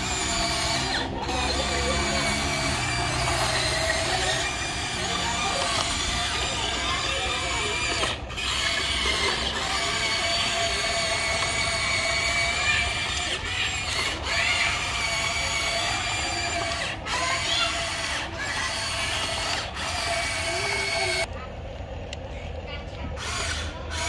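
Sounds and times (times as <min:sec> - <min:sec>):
toy excavator motors whining: 0:00.0 - 0:24.0.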